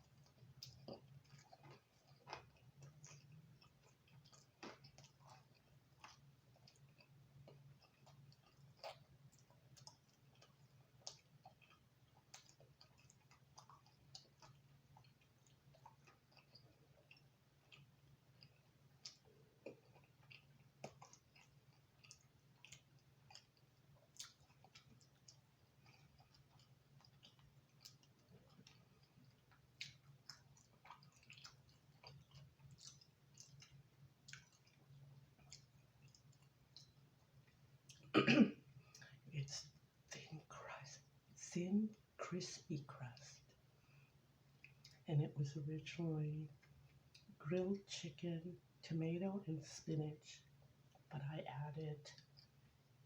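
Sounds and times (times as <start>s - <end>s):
chewing crispy pizza: 0.0s - 53.0s
steady low hum: 0.0s - 53.0s.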